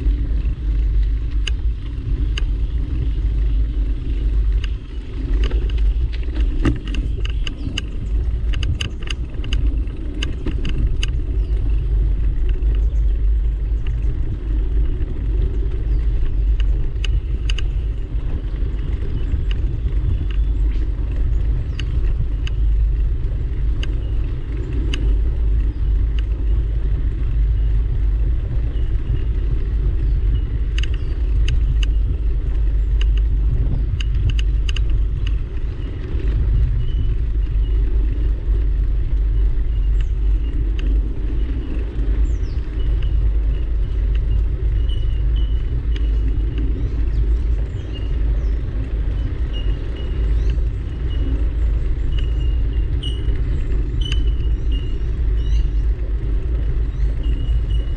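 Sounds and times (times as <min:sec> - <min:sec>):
sharp clicks and ticks: 0:00.0 - 0:57.9
walking and camera mount rumble: 0:00.0 - 0:57.9.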